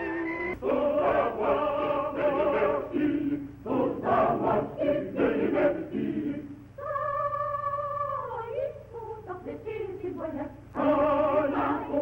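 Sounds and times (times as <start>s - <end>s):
choir singing: 0.0s - 12.0s.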